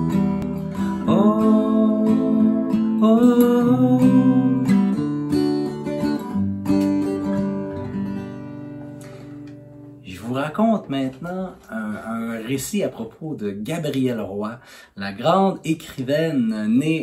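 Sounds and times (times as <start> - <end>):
acoustic guitar music: 0.0 - 14.5.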